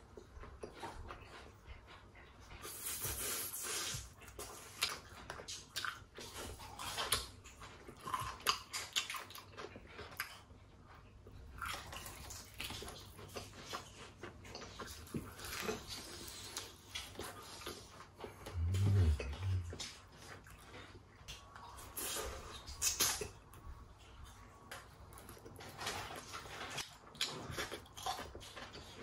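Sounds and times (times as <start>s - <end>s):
person chewing crunchy chicken: 0.0s - 29.0s.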